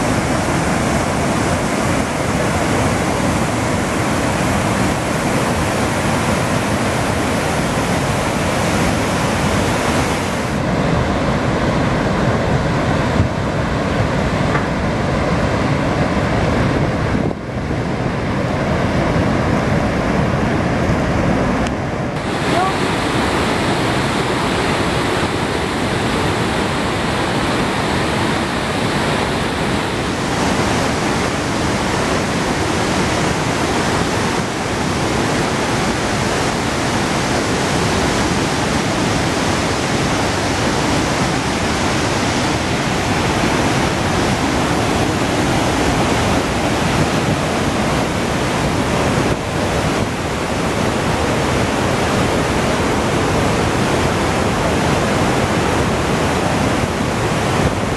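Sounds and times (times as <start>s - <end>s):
waterfall rushing roar: 0.0s - 57.9s.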